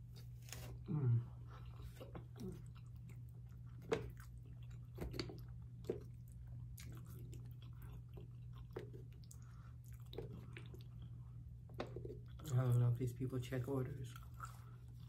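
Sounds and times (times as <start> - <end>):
person chewing food: 0.0 - 12.8, 14.1 - 15.0
steady low hum: 0.0 - 15.0.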